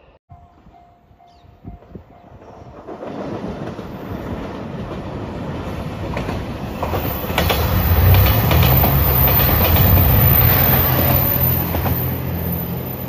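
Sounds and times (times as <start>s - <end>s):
diesel train passing: 0.0s - 13.0s
wheels clicking over rail joints: 2.4s - 13.0s.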